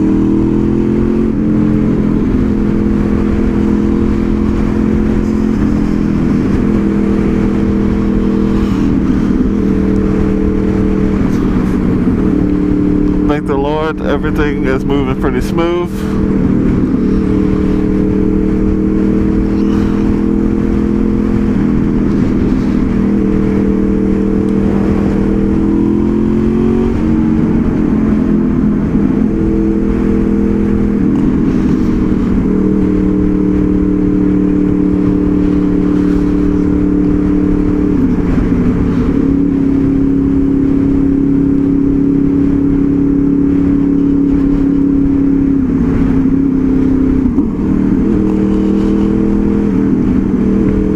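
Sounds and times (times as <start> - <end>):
motorcycle engine running: 0.0 - 50.9
road and wind noise: 0.0 - 50.9.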